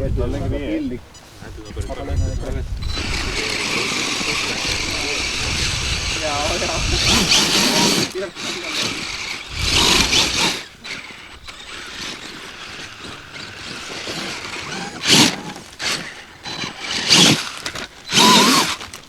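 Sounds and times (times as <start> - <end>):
model car motor whining: 2.1 - 19.0.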